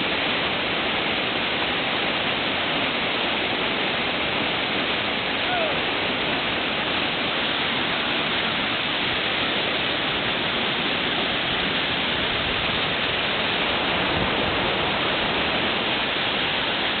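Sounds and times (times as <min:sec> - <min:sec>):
whitewater rapid rushing: 0:00.0 - 0:17.0.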